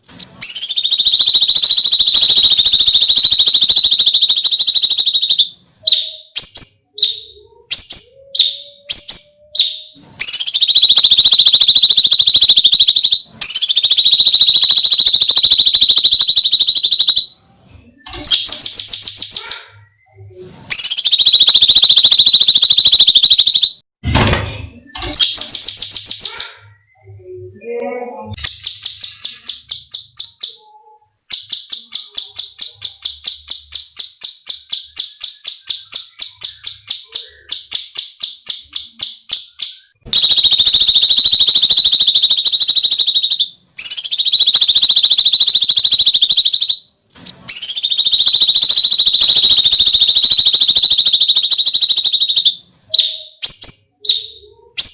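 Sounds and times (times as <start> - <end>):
bird singing shrill whistled trills: 0.4 - 23.8, 24.7 - 27.2, 28.3 - 46.9, 47.5 - 54.9.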